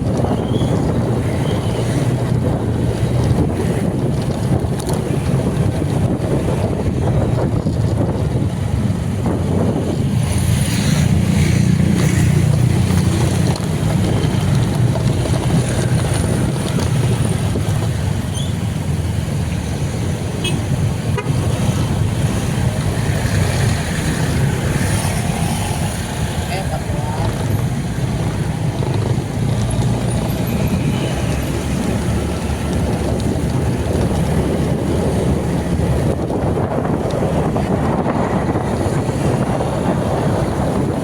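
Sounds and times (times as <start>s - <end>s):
moving vehicle: 0.0s - 41.0s
road traffic rumble: 0.0s - 41.0s
wind buffeting microphone: 0.0s - 41.0s.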